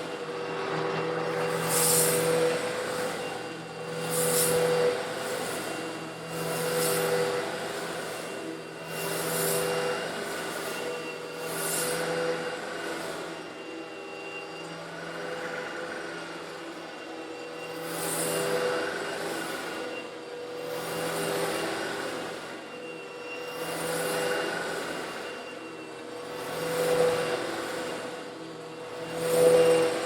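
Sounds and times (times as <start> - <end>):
vacuum cleaner motor hum: 0.0 - 30.0.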